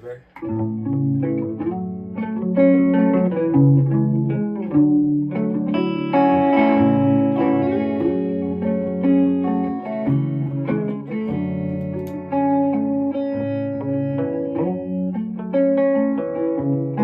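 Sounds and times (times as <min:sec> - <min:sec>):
electric guitar notes and chords: 0:00.0 - 0:17.0.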